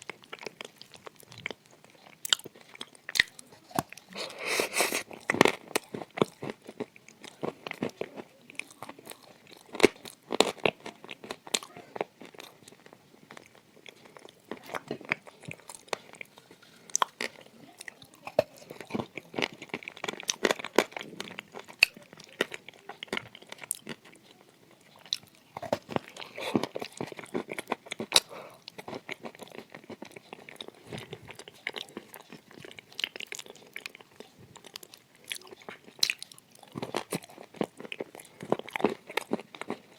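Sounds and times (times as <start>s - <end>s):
crunching of clay being chewed: 0.0s - 39.9s.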